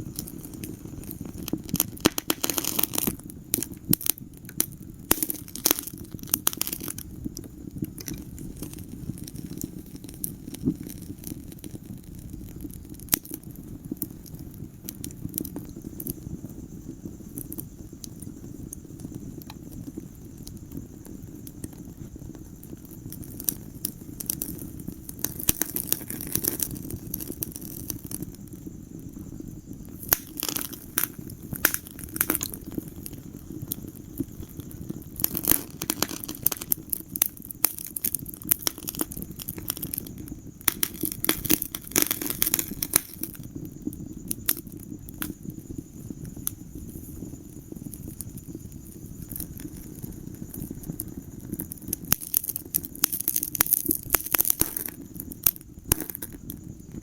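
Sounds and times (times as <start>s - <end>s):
low rumble of burning: 0.0s - 57.0s
wood fire crackling: 0.0s - 57.0s.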